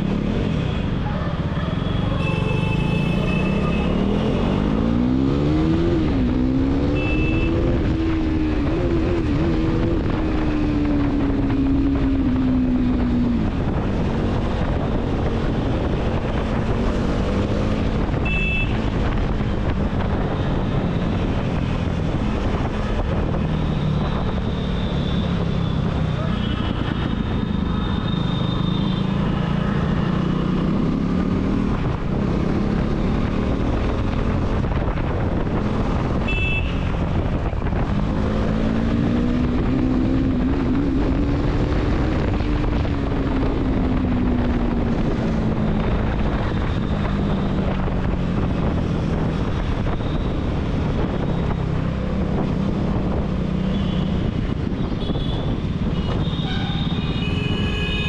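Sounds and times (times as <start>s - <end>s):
motorcycle engine revving: 2.8s - 57.1s.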